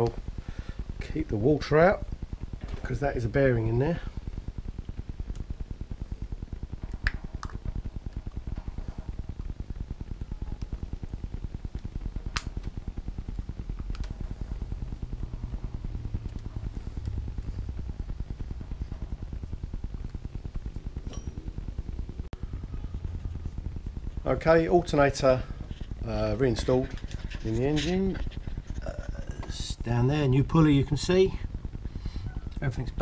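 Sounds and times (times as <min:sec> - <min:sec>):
machine throbbing hum: 0:00.0 - 0:33.0.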